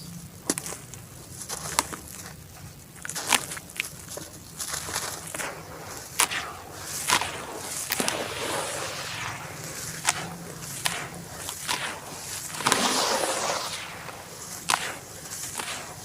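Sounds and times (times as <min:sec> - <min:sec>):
charcoal crunching by hand: 0:00.4 - 0:16.0.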